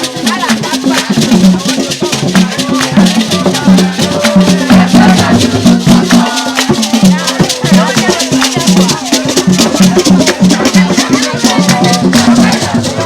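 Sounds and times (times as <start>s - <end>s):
shaker rattle: 0.0s - 13.0s.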